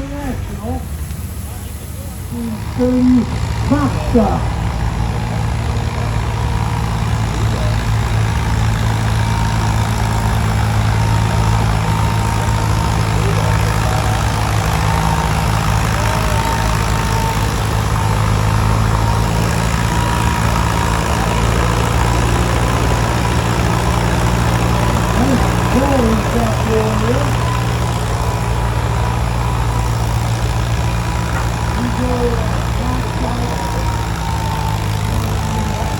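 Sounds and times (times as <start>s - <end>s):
tractor engine running steadily: 0.0s - 35.9s.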